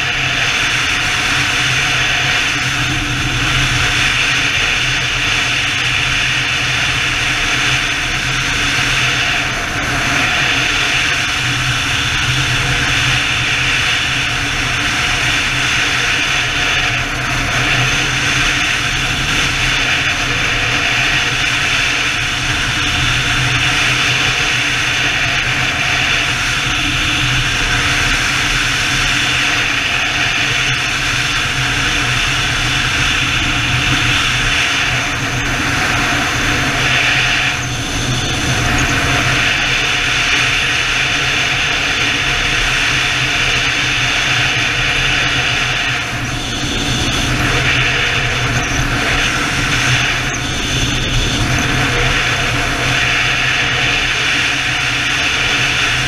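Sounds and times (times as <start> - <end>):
motorcycle engine drone: 0.0 - 56.0
wind rush over microphone: 0.0 - 56.0.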